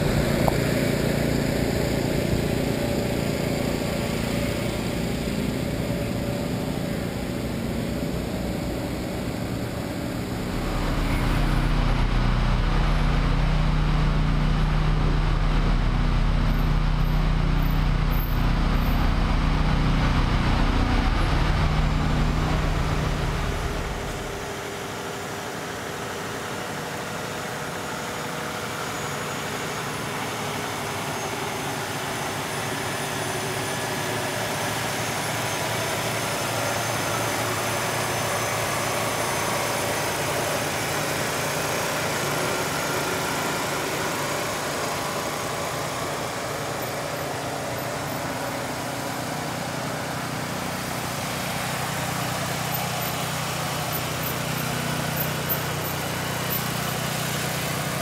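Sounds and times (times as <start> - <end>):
diesel truck engines droning: 0.0 - 58.0.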